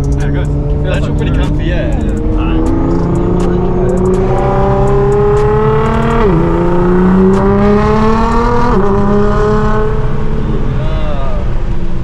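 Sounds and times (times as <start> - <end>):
car engine accelerating through gears: 0.0 - 12.0.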